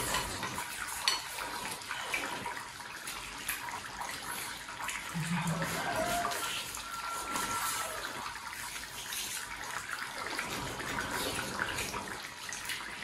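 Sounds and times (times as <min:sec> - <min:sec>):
wet chewing and slurping: 0:00.0 - 0:13.0.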